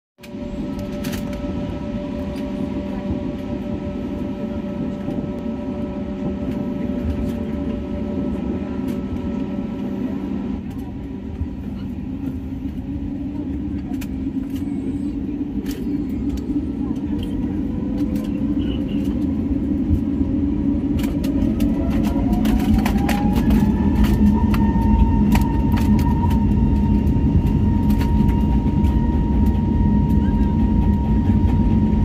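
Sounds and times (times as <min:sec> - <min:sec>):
airliner cabin rumble: 0:00.2 - 0:32.0.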